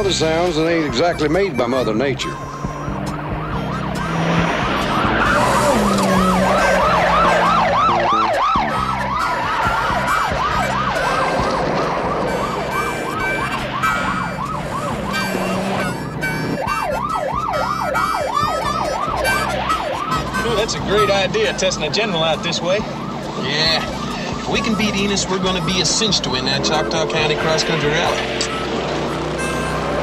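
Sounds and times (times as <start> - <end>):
police siren yelping: 0.0 - 30.0.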